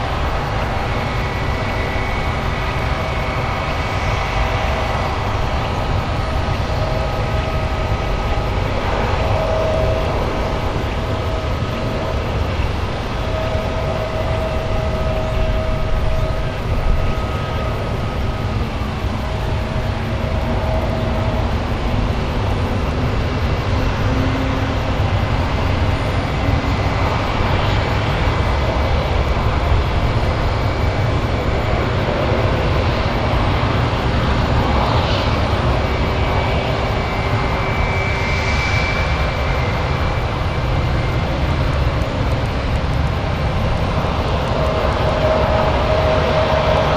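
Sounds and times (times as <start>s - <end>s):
high-pitched engine whine: 0.0s - 46.9s
jet engine rushing noise: 0.0s - 46.9s.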